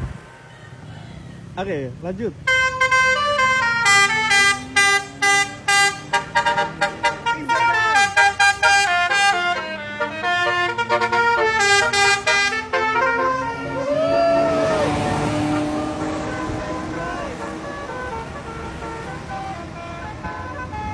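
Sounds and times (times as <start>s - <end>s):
musical air horns playing a tune: 2.5s - 20.9s.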